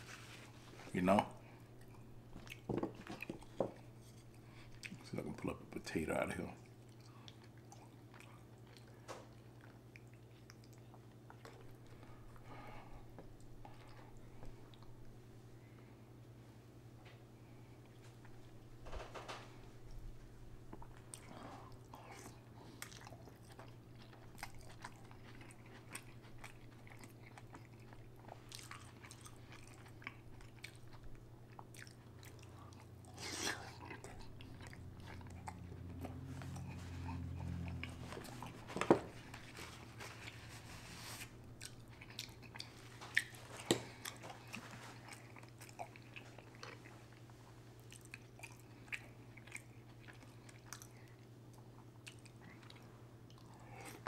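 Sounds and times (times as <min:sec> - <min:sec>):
wet chewing and mouth smacks: 0:01.4 - 0:05.0, 0:06.6 - 0:12.4, 0:13.2 - 0:15.1, 0:20.7 - 0:40.5, 0:41.4 - 0:54.0.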